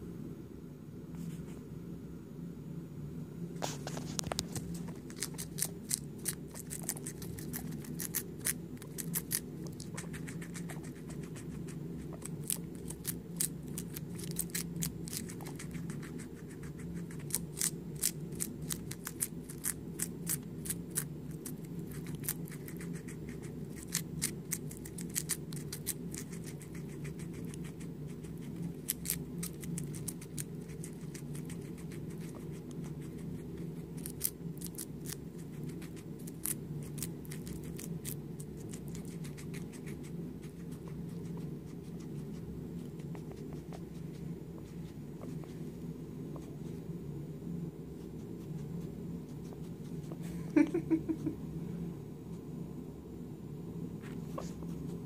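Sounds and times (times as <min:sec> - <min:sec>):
steady low hum: 0:00.0 - 0:55.0
guinea pig chewing lettuce: 0:03.6 - 0:46.8, 0:47.4 - 0:51.4, 0:54.0 - 0:55.0.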